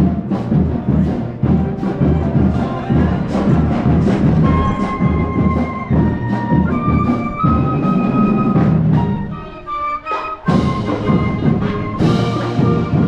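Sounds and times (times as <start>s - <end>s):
bass drum beat: 0.0s - 9.3s, 10.5s - 13.0s
wind instruments holding notes: 0.0s - 13.0s.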